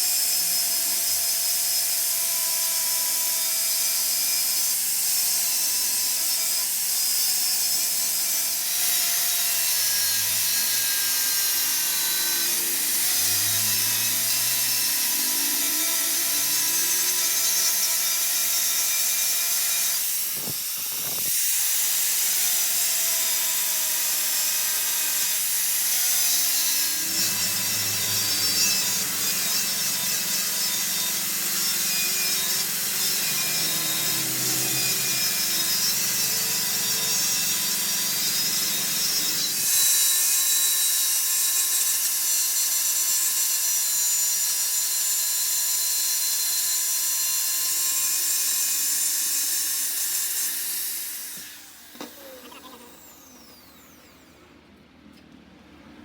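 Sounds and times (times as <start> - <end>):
machine tool cutting metal: 0.0 - 54.3.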